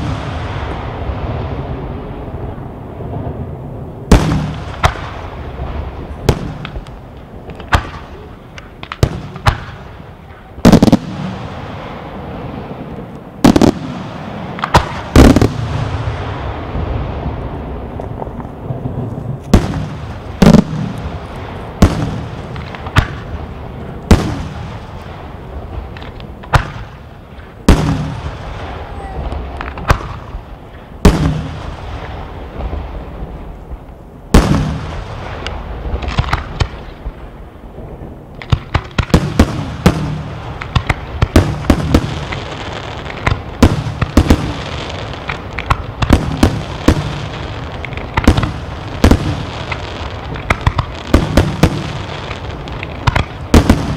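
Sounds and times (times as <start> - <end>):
firework bangs with echo: 0.0 - 33.4, 34.3 - 37.3, 37.9 - 53.9.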